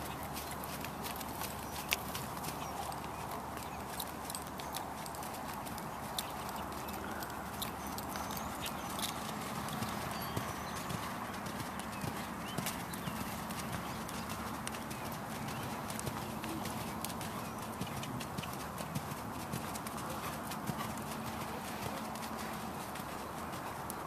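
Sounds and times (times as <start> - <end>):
horse hooves on soft dirt: 0.0 - 24.0.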